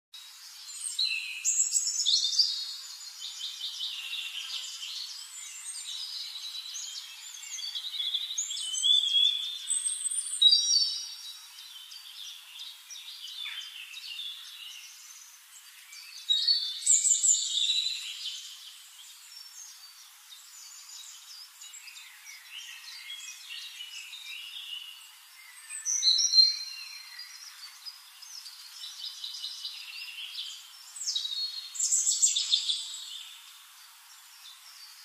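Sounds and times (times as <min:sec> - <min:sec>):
birds singing and chirping: 0:00.2 - 0:35.0.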